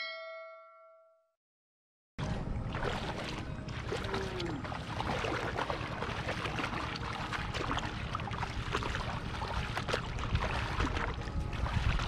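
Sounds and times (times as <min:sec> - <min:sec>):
feet wading through water: 0:02.2 - 0:12.0.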